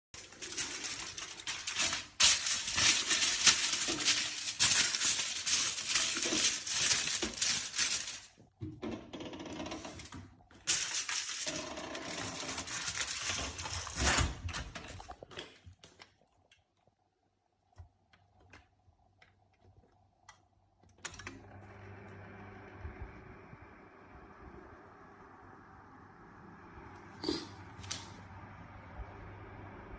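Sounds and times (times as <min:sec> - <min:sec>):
microwave oven crackling and sparking: 0:00.2 - 0:15.2, 0:20.9 - 0:29.9.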